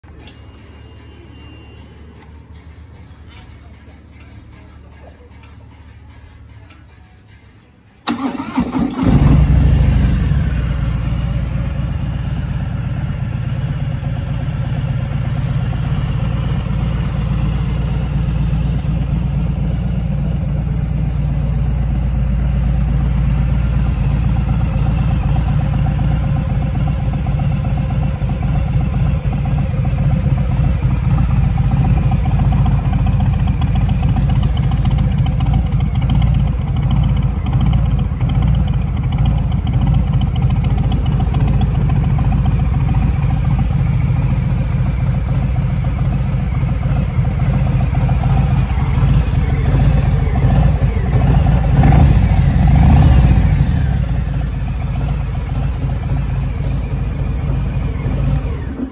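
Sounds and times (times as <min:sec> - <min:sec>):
motorcycle engine idling: 0:08.0 - 0:58.9.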